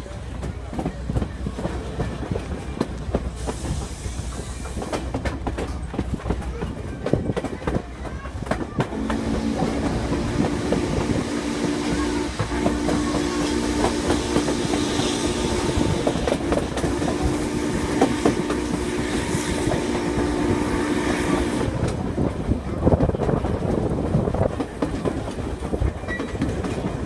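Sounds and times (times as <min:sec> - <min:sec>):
wheels clicking over rail joints: 0:00.0 - 0:20.0, 0:21.7 - 0:27.0
train rumble: 0:00.0 - 0:27.0.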